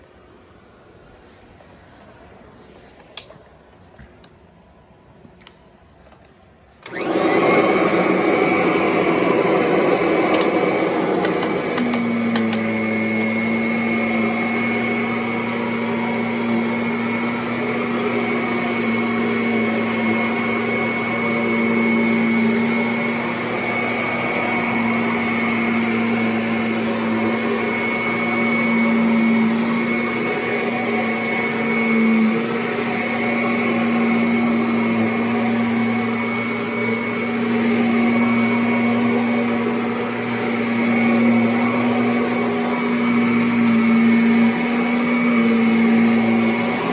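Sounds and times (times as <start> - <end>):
vacuum cleaner running: 6.8 - 46.9.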